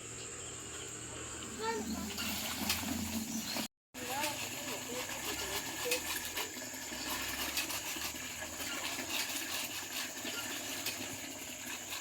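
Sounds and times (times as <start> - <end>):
steady running water: 1.5 - 12.0.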